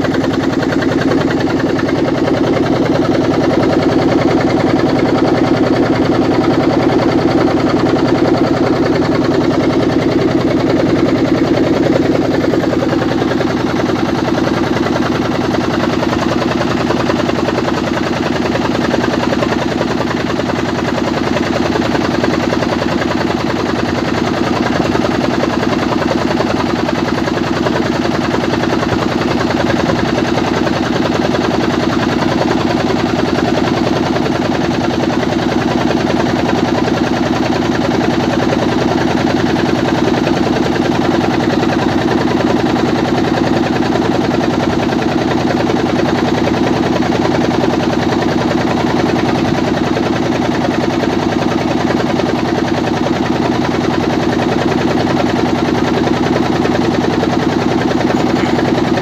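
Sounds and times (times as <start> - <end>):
motorboat engine chugging: 0.0 - 59.0.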